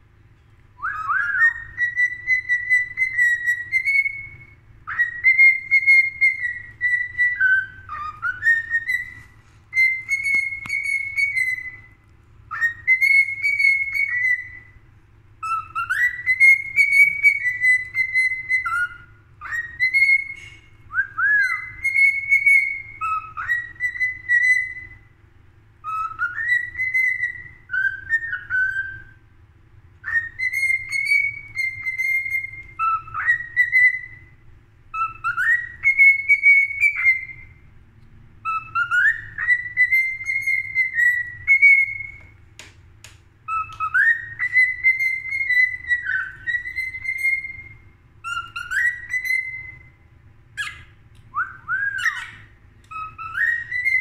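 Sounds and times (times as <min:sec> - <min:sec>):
cockatiel whistling a tune: 0:00.8 - 0:14.8, 0:15.4 - 0:25.2, 0:25.8 - 0:29.3, 0:30.0 - 0:37.7, 0:38.4 - 0:42.4, 0:43.4 - 0:54.0.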